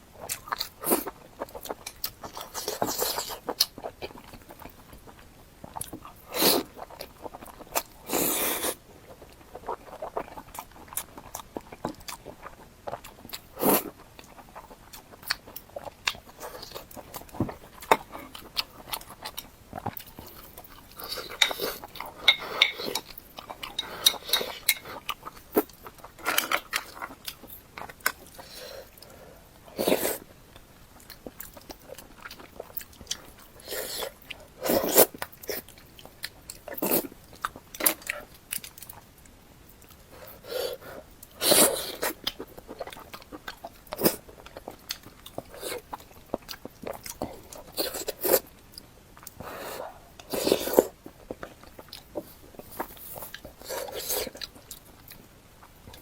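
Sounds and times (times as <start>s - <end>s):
chewing: 0.2s - 56.0s.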